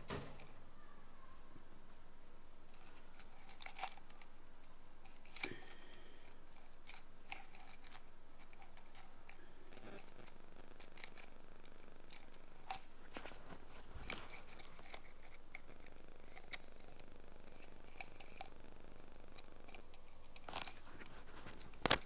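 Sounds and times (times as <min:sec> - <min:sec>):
steady hiss: 0:00.0 - 0:22.0
scratchy crackles in ear: 0:02.6 - 0:22.0.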